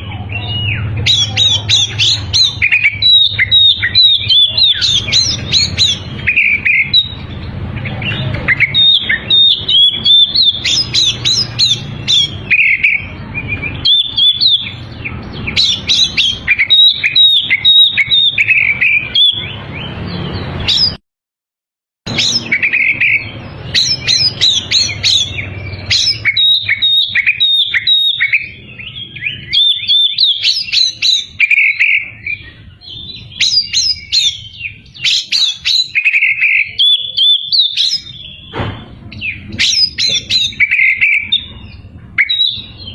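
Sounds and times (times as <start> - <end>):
bird singing whistles and trills: 0.0 - 21.0, 22.1 - 42.9.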